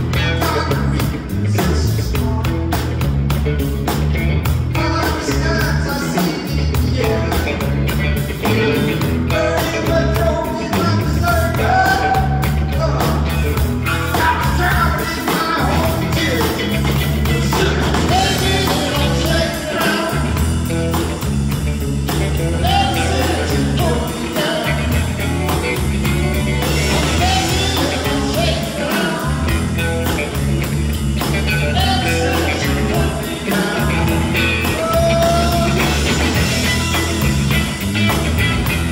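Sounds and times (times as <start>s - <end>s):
bass and drum groove: 0.0s - 38.9s
blues-rock band playing: 0.0s - 38.9s.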